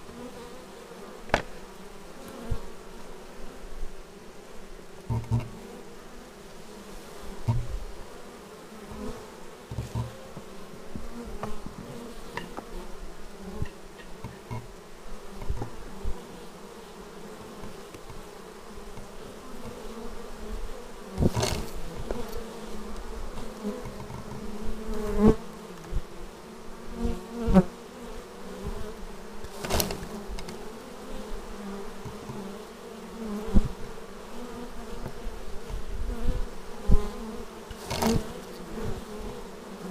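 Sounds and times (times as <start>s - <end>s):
bees buzzing: 0.0s - 39.9s.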